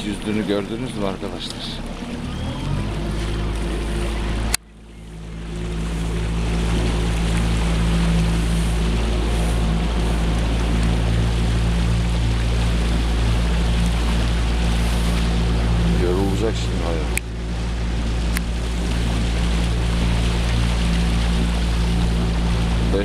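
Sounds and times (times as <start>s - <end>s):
motorboat engine running: 0.0s - 23.0s
wind rumble on microphone: 0.0s - 23.0s.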